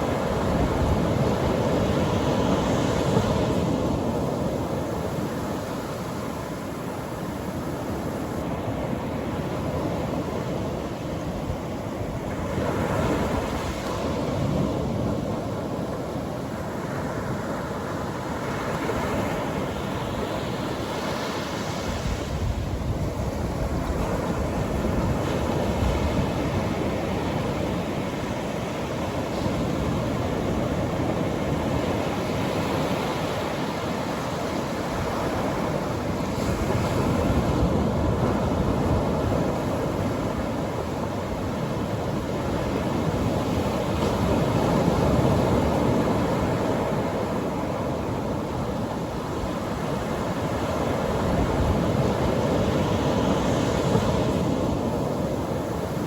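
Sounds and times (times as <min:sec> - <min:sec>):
surf waves breaking: 0:00.0 - 0:56.0.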